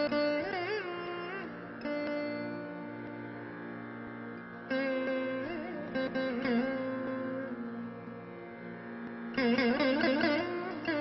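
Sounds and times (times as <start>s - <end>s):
plucked string instrument: 0.0s - 11.0s.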